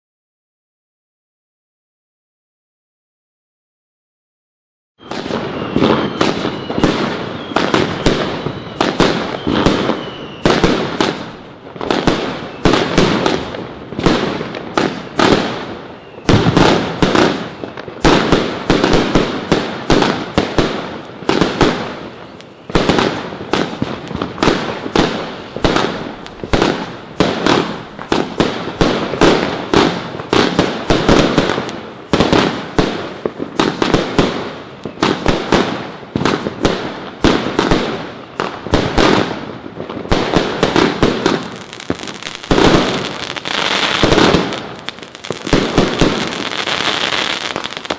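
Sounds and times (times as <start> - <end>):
fireworks bangs and bursts: 5.0 - 47.9.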